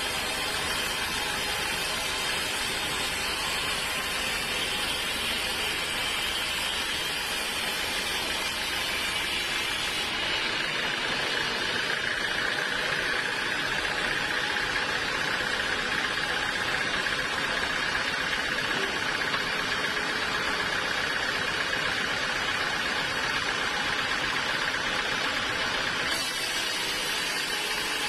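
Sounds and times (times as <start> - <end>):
sawmill saw whirring: 0.0 - 28.0.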